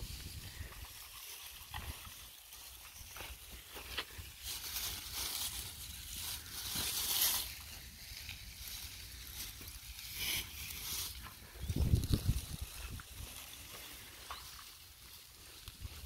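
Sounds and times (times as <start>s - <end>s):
dry onion tops rustling: 0.0s - 16.0s.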